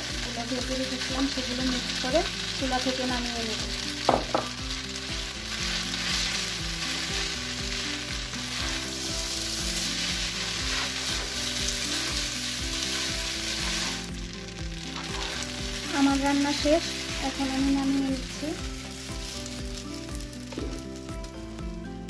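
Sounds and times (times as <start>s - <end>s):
utensil stirring in pan: 0.0s - 20.8s
noodles sizzling in a frying pan: 0.0s - 22.0s.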